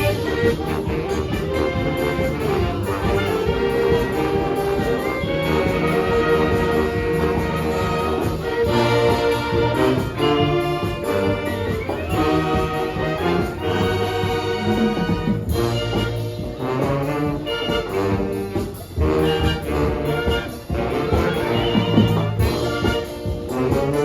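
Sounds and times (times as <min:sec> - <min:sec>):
brass band playing pop: 0:00.0 - 0:24.0
steady bass line: 0:00.0 - 0:24.0
trumpets and trombones melody: 0:00.0 - 0:24.0.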